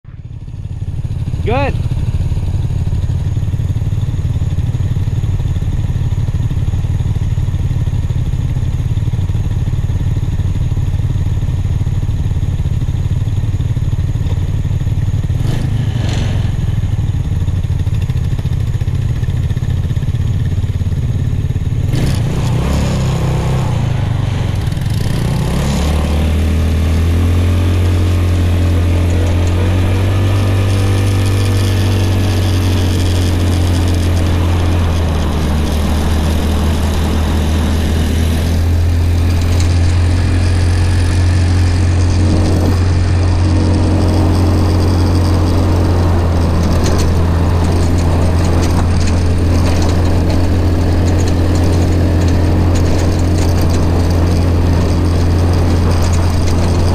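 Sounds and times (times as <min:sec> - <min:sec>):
go-kart engine running: 0:00.1 - 0:56.9.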